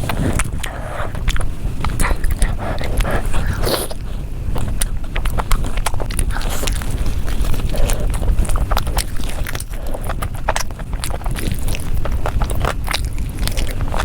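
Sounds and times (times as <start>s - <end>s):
low rumble: 0.0s - 14.0s
person chewing food: 0.0s - 14.0s.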